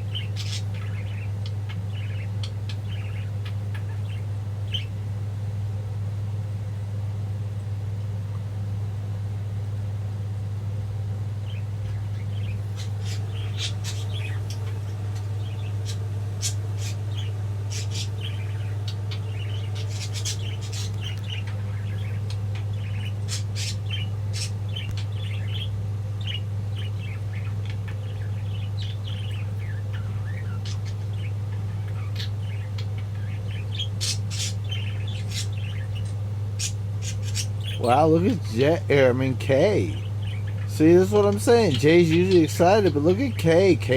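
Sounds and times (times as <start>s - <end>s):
budgies chirping and chattering: 0.0s - 5.1s, 11.3s - 43.9s.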